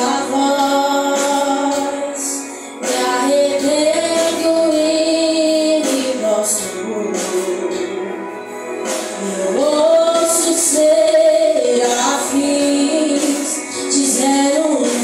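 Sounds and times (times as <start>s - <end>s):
musical backing: 0.0s - 15.0s
voices singing worship song: 0.0s - 15.0s.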